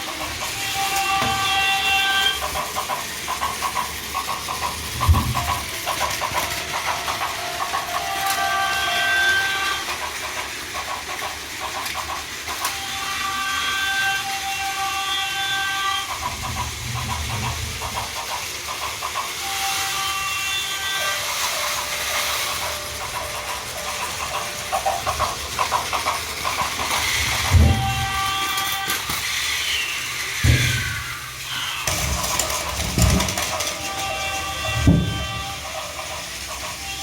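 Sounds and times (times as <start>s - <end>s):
toy train motors whirring: 0.0s - 37.0s
wheels clicking on plastic track: 0.0s - 37.0s.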